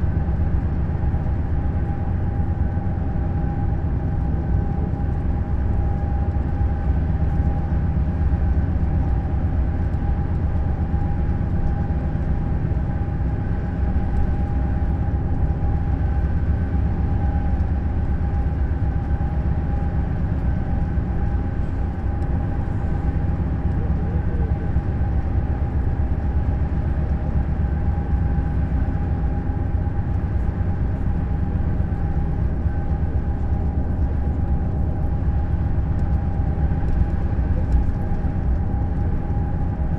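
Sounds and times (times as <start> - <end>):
coach engine and road rumble: 0.0 - 39.9
constant whine: 0.0 - 39.9.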